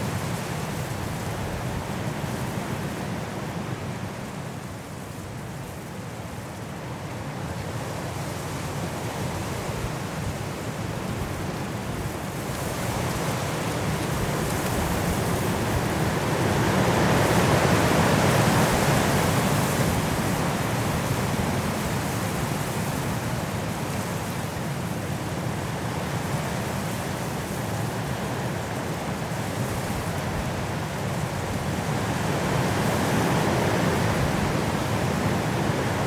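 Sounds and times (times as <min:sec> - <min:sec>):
strong wind through trees: 0:00.0 - 0:36.0.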